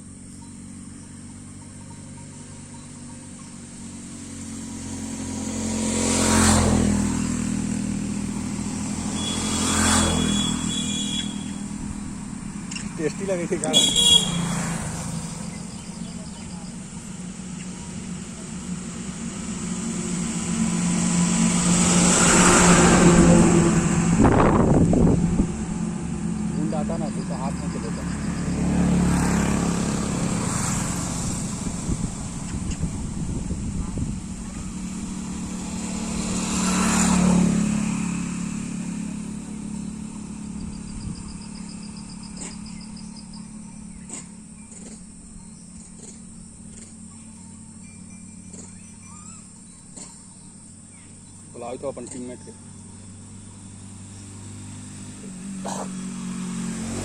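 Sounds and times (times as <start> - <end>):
motor vehicle passing: 0.0 - 57.0.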